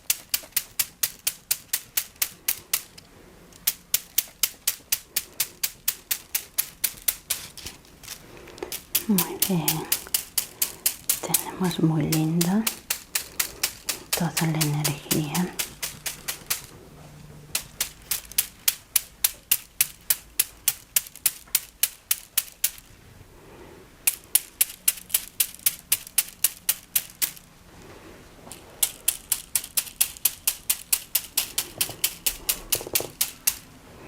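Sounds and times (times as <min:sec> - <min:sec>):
plant-stem rods clicking: 0:00.0 - 0:16.8, 0:17.5 - 0:22.9, 0:24.0 - 0:27.5, 0:28.5 - 0:33.8.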